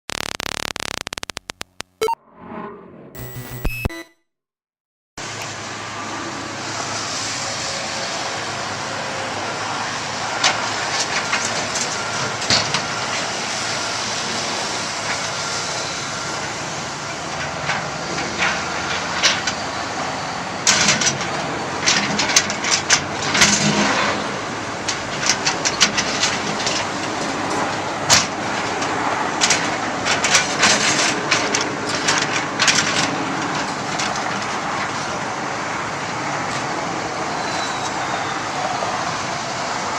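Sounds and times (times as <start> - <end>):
diesel construction machinery running: 5.2 - 39.9.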